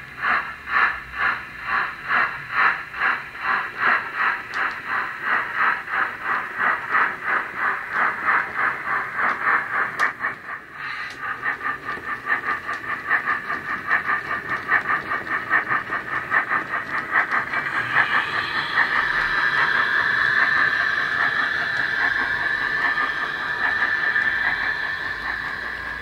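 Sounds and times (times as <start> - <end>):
model steam locomotive chuffing: 0.0 - 26.0
steady steam hiss: 0.0 - 26.0.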